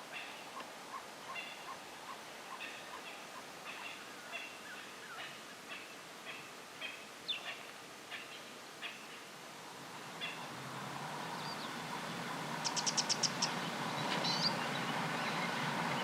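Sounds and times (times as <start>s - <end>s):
birds calling: 0.0s - 9.3s, 11.2s - 16.0s
faint outdoor hiss: 0.0s - 16.0s.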